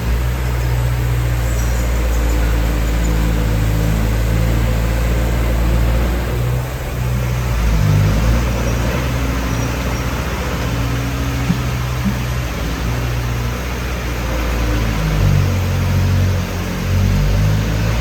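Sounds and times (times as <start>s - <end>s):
diesel engine deep rumble: 0.0s - 18.0s.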